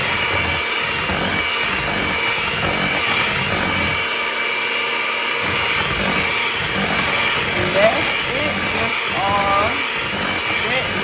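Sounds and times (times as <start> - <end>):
beaters churning batter: 0.0 - 11.0
electric hand mixer running: 0.0 - 11.0.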